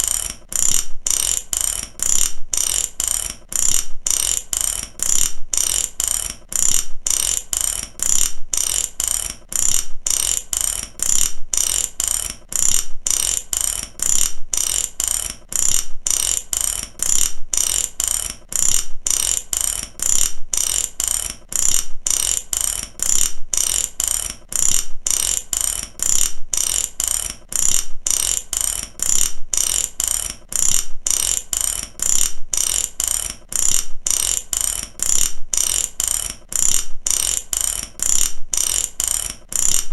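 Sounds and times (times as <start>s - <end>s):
ratchet clicking: 0.0s - 39.9s.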